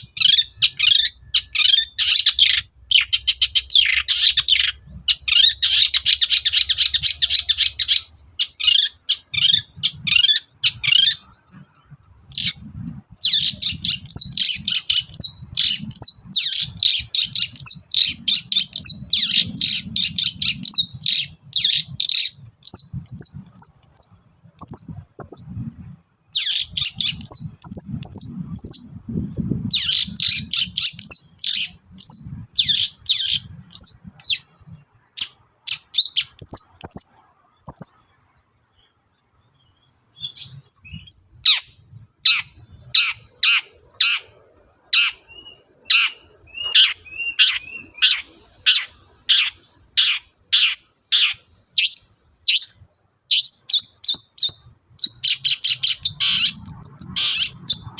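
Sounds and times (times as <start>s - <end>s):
bird singing chattering song: 0.0s - 57.9s.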